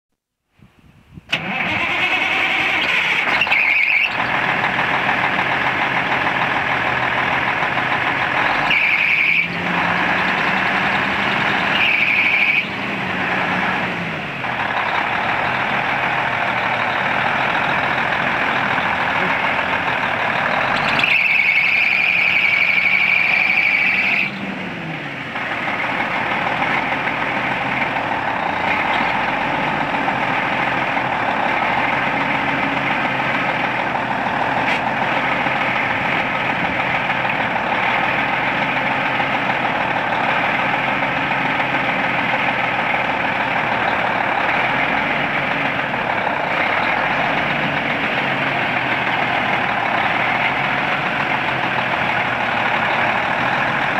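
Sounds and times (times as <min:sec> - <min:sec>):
diesel engine idling: 0:01.2 - 0:53.9.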